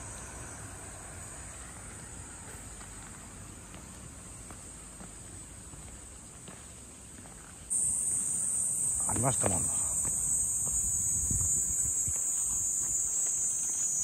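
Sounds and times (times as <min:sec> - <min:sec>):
high-pitched insect chorus: 0:00.0 - 0:14.0
footsteps on garden path: 0:01.4 - 0:14.0.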